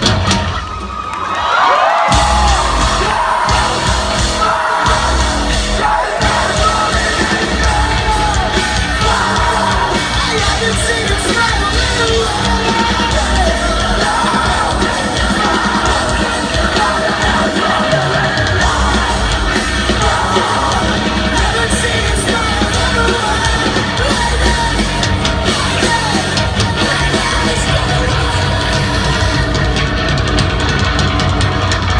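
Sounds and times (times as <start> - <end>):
live rock band playing: 0.0 - 1.1, 2.0 - 31.9
singer singing and yelling: 1.5 - 31.9.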